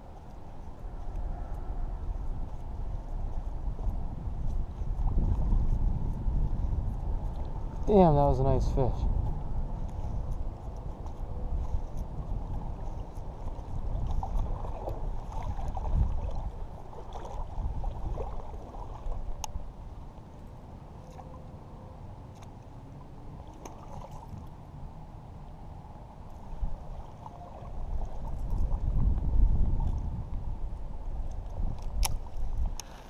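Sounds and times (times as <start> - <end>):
low wind rumble: 0.0 - 33.0
river water lapping and gurgling: 0.0 - 33.0.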